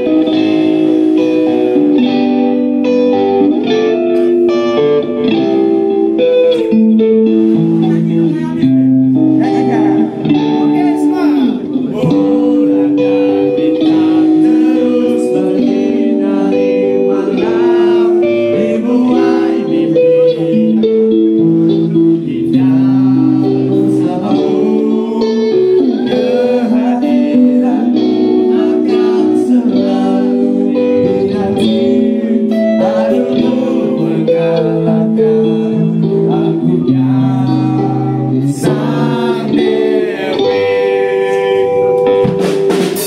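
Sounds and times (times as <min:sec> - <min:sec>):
amplified electric guitar: 0:00.0 - 0:43.0
person singing into microphone: 0:00.0 - 0:43.0.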